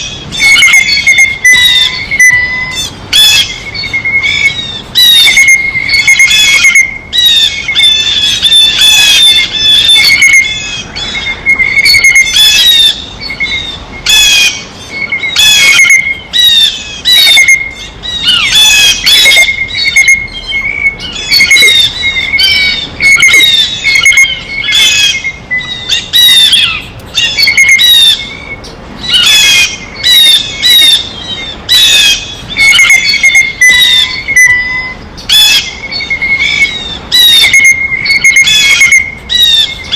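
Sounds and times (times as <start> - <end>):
blue jays squawking: 0.0 - 39.9.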